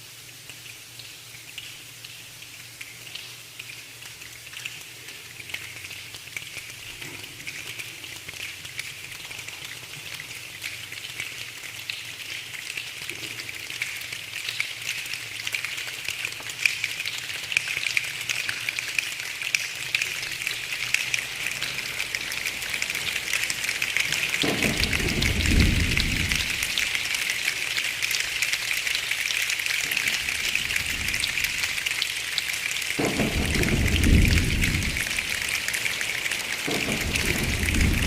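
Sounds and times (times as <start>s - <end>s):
hands snapping and clicking like rain: 0.4s - 38.0s.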